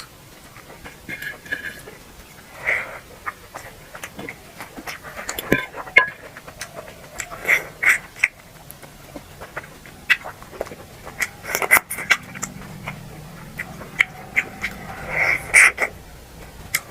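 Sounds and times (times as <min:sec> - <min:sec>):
mouth chewing sounds: 0:00.0 - 0:16.9.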